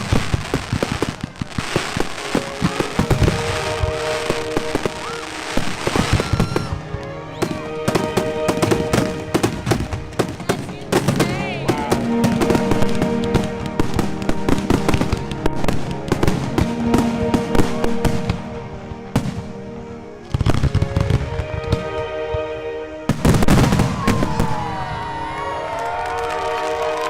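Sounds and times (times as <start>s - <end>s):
fireworks bangs: 0.0s - 18.5s, 23.1s - 27.0s
fireworks crackling: 0.0s - 27.0s.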